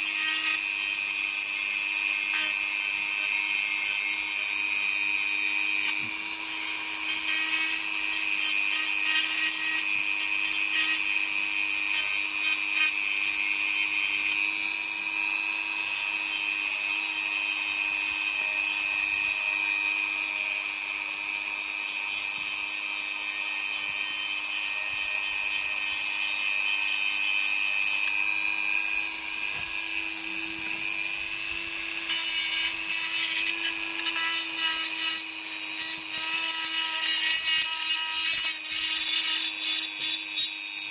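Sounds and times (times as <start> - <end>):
power tool whining: 0.0 - 40.9.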